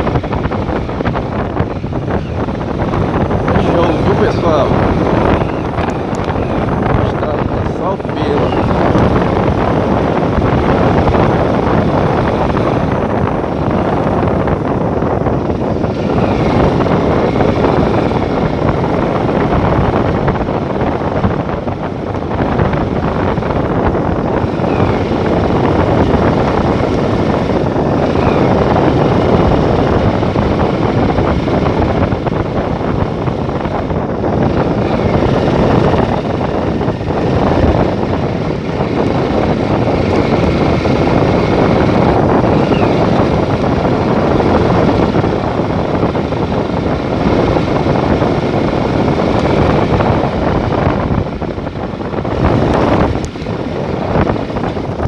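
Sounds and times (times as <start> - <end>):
moving vehicle rushing noise: 0.0 - 55.0
wind on microphone: 0.0 - 55.0.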